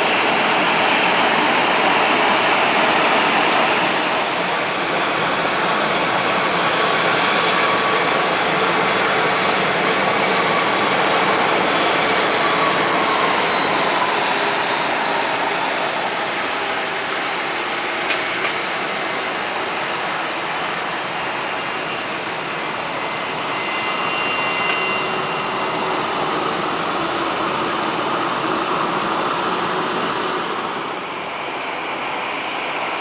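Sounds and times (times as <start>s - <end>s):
jet engines taxiing: 0.0s - 33.0s.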